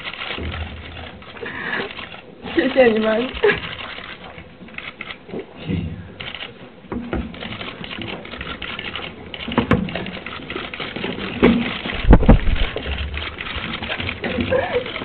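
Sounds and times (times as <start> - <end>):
camera shutters clicking: 0.0 - 5.2, 6.2 - 6.6, 7.2 - 15.0.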